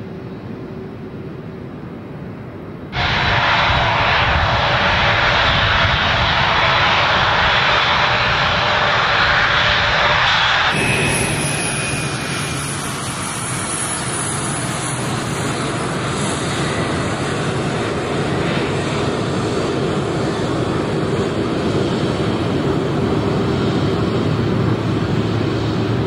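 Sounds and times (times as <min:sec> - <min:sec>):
jet engine rumble with high whine: 0:00.0 - 0:26.0
jet engines rushing loud: 0:00.0 - 0:26.0.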